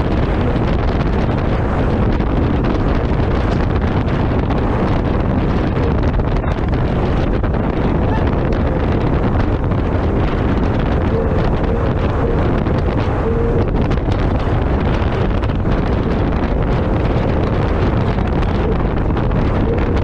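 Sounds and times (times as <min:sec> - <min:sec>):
water rushing off hull: 0:00.0 - 0:20.0
wind buffeting microphone: 0:00.0 - 0:20.0.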